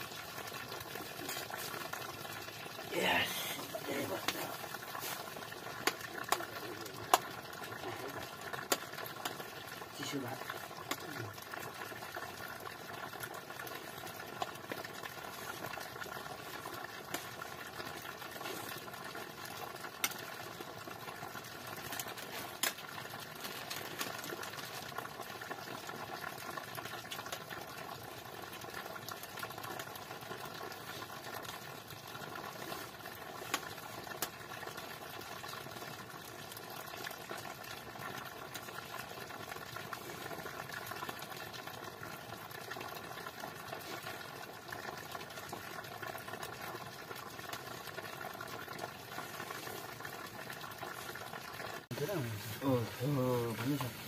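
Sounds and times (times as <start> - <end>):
pot simmering with bubbling hiss: 0.0 - 54.0.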